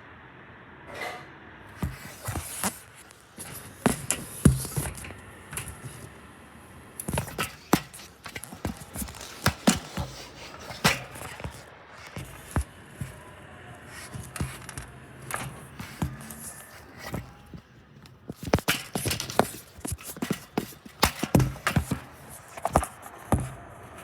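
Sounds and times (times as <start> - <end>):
low steady hum: 0.0 - 24.0
knocks and clatters: 1.8 - 6.2, 7.0 - 24.0.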